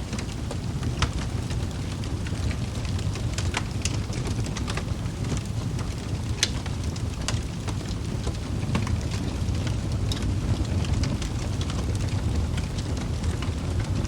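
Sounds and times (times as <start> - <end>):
fire rumbling: 0.0 - 14.0
logs crackling and popping: 0.0 - 14.0.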